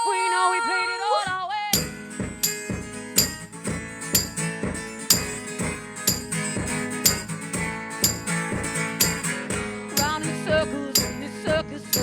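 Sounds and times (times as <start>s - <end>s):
guitar strumming: 1.7s - 12.0s.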